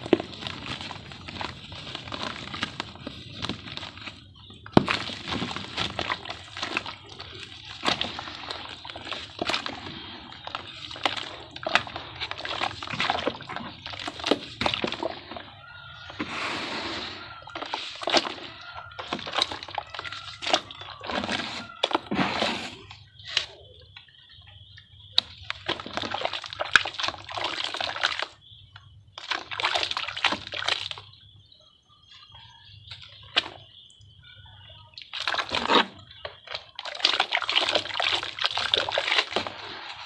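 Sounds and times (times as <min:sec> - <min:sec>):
water sloshing: 0:00.0 - 0:31.2, 0:32.9 - 0:40.0
cement shapes crackling and crunching: 0:00.0 - 0:31.4, 0:32.2 - 0:40.0.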